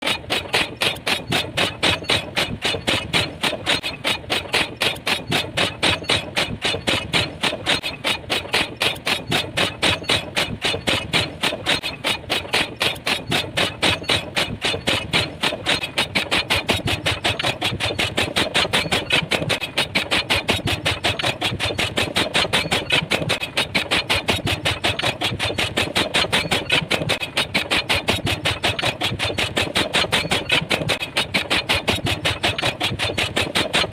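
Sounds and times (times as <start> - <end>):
pile driver hammering: 0.0 - 33.9.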